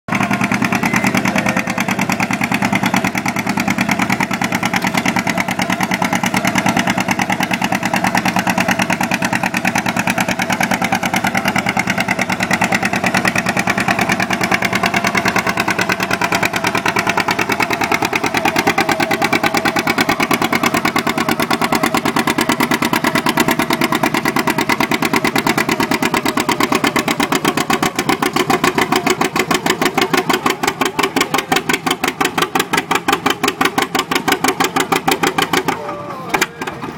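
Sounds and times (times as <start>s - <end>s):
tractor engine running under load: 0.0s - 36.9s.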